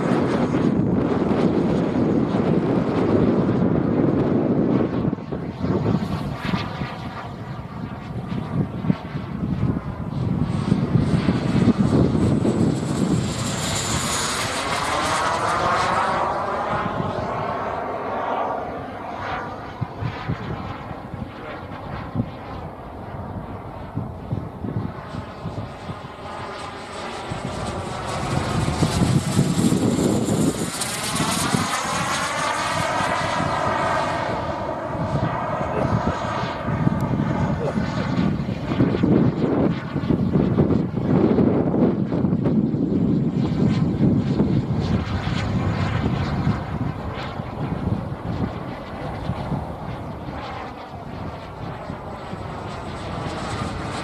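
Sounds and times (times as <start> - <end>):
high turbine whine: 0.0 - 54.0
model jet engine roaring past: 0.0 - 54.0.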